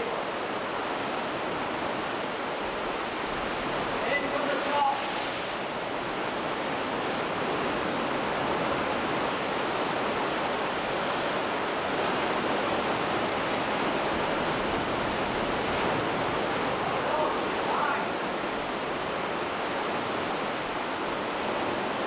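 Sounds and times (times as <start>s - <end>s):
sea and wind rushing: 0.0s - 22.0s.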